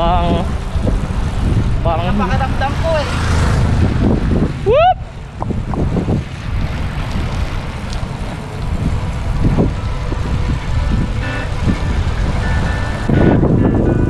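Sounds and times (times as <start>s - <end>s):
tyre and road noise: 0.0s - 14.0s
wind buffeting microphone: 0.0s - 14.0s.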